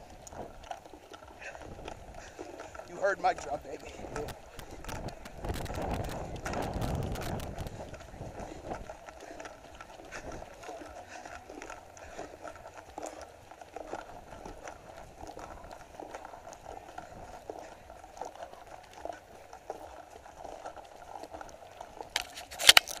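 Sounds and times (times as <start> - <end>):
running footsteps on gravel: 0.0 - 23.0.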